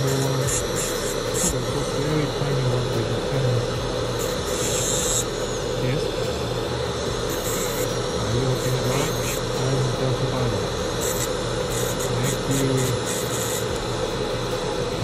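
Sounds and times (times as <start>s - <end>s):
dental handpiece motor whine: 0.0s - 15.0s.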